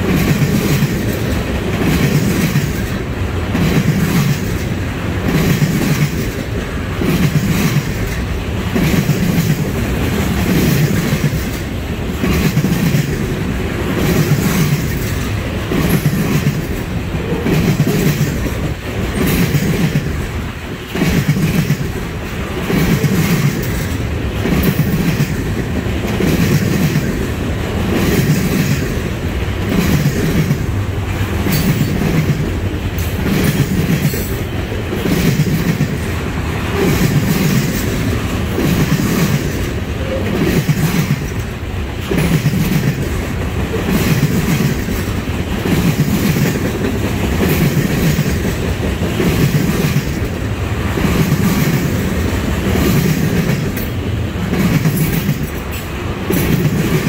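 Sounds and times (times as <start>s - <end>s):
rumble of train cars: 0.0s - 57.0s
wheels clacking over rail joints: 0.0s - 57.0s.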